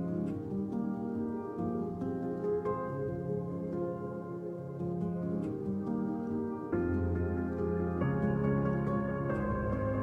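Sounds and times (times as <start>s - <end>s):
calm ambient music: 0.0s - 10.0s.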